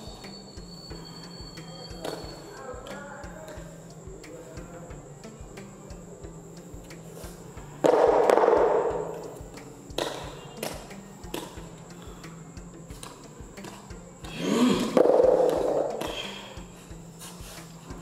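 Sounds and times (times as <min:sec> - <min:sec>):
low pulsing soundtrack beat: 0:00.0 - 0:18.0.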